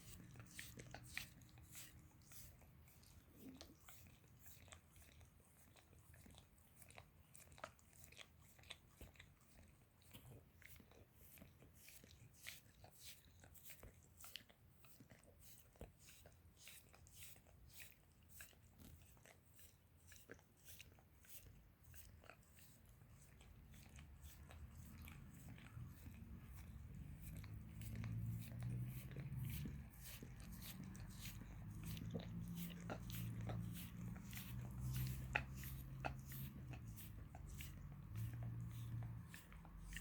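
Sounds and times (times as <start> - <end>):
dog licking wet smacks: 0.0 - 40.0.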